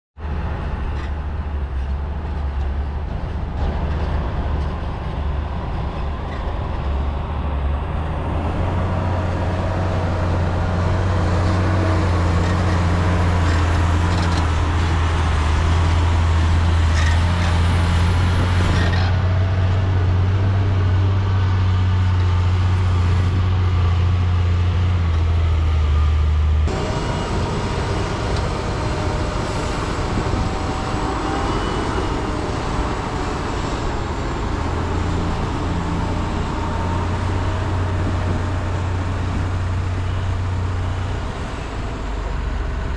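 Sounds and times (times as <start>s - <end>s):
diesel machinery engine drone: 0.2s - 42.9s.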